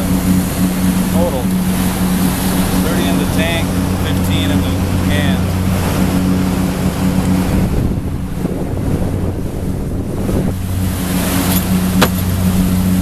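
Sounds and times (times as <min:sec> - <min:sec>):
motorboat engine humming: 0:00.0 - 0:13.0
water rushing past hull: 0:00.0 - 0:13.0
wind buffeting microphone: 0:00.0 - 0:13.0.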